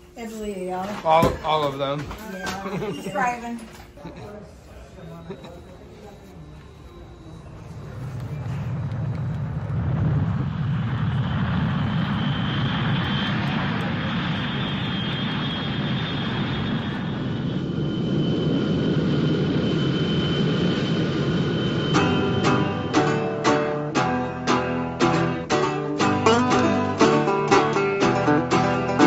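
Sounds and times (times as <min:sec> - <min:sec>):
aircraft engines running: 0:05.7 - 0:29.0.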